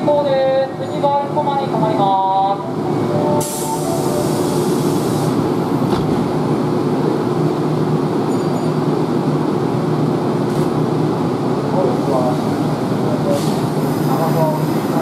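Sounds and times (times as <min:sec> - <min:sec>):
train equipment humming: 0:00.0 - 0:15.0.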